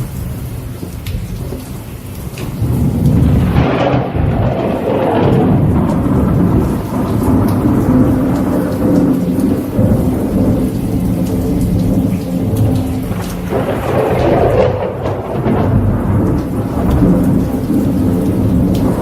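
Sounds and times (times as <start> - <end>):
roar of falling water: 0.0 - 19.0.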